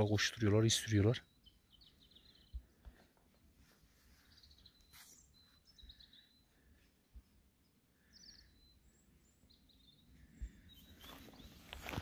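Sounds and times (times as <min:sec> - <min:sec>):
faint bird chirps: 0:00.7 - 0:12.0.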